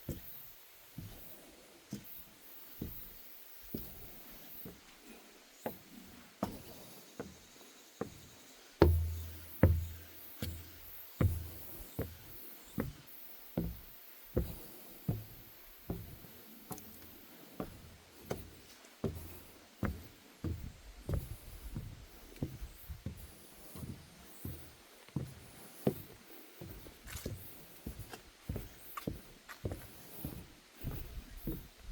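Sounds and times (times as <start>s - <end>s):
footsteps on wooden boardwalk: 0.0s - 31.9s.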